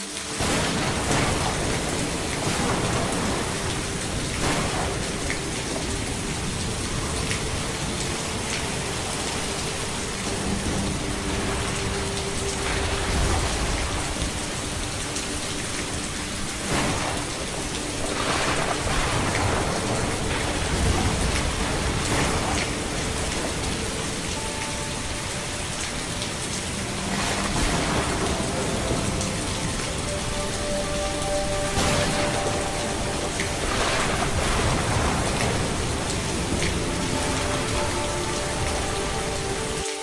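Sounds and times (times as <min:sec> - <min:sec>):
rain drop hits: 0:00.0 - 0:40.0
steady rain falling: 0:00.0 - 0:40.0.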